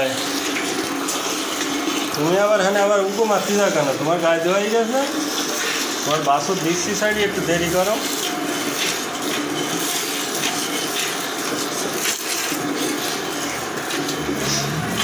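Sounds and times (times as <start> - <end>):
milk squirting into metal pail: 0.0 - 15.0.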